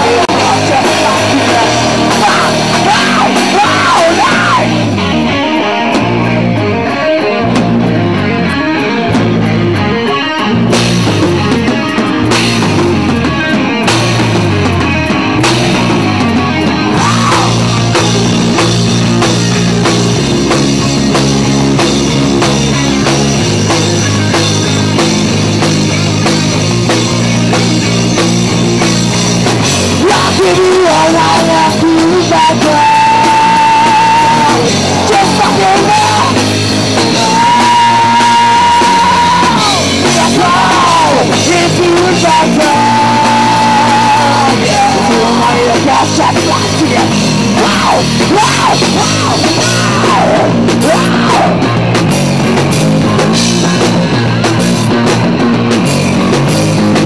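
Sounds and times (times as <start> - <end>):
held wavering lead guitar notes: 0.0 - 56.9
live rock band playing: 0.0 - 57.0.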